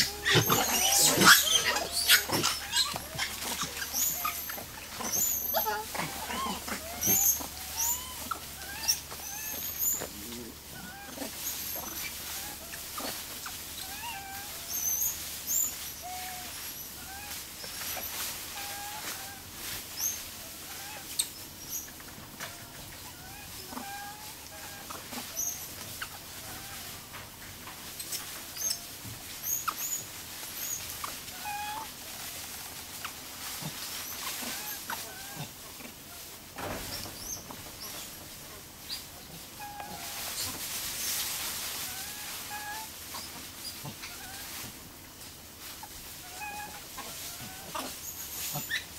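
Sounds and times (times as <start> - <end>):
animals chirping in trees: 0.0 - 48.9.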